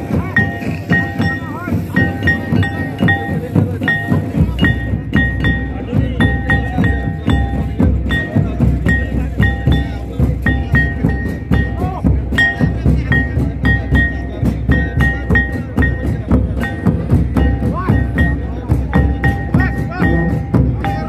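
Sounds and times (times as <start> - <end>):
drums beating fast rhythm: 0.0 - 21.0.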